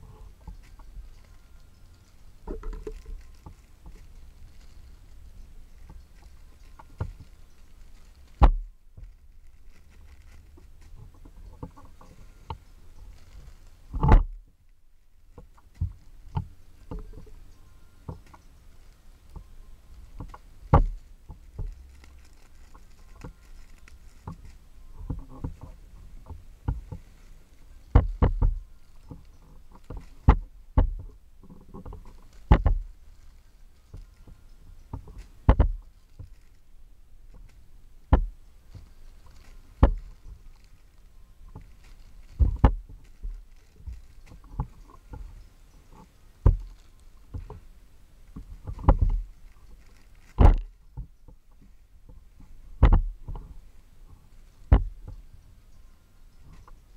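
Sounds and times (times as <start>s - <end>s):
plastic bags rustling: 0.0s - 51.0s.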